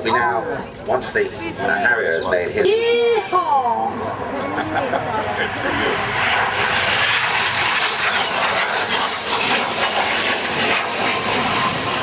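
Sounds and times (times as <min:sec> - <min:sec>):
jet aircraft engine roar: 0:00.0 - 0:12.0.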